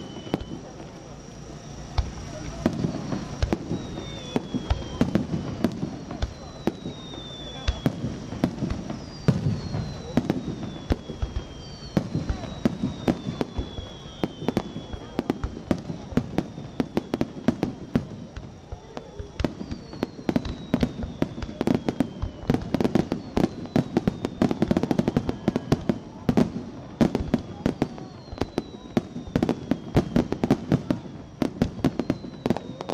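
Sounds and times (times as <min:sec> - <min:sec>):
falling firework whistles: 0:00.0 - 0:32.9
fireworks bangs and crackling: 0:00.0 - 0:32.9.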